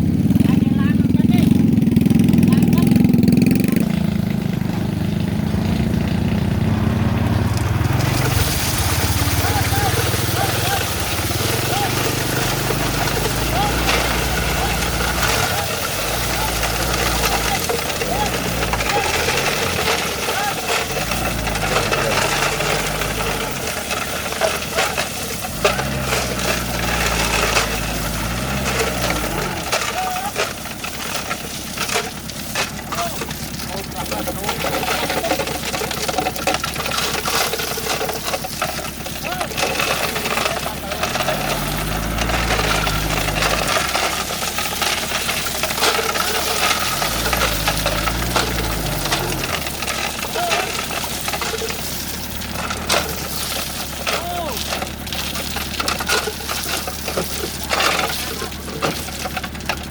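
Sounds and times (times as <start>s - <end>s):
engine revving: 0.0s - 59.9s.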